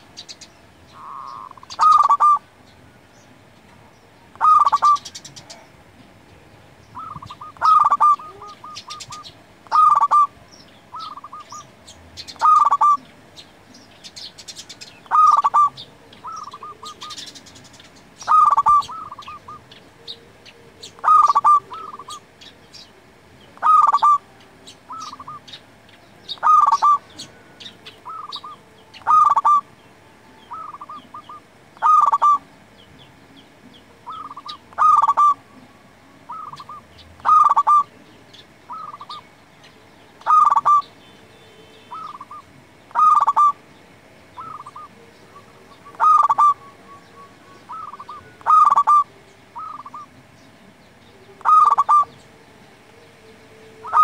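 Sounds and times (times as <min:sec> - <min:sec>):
dove cooing: 0:00.0 - 0:02.6, 0:04.3 - 0:29.8, 0:30.4 - 0:32.8, 0:33.5 - 0:39.4, 0:40.2 - 0:41.0, 0:41.9 - 0:43.6, 0:44.3 - 0:50.4, 0:51.1 - 0:54.0.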